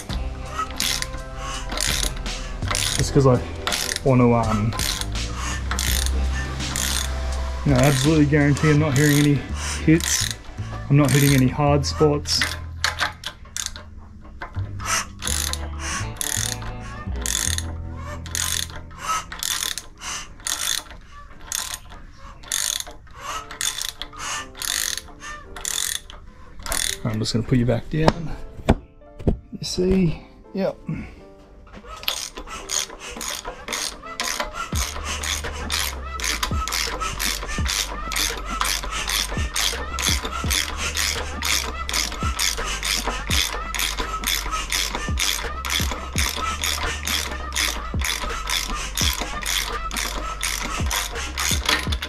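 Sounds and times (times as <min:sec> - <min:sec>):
ratchet wrench clicking: 0:00.0 - 0:27.2, 0:31.9 - 0:52.0.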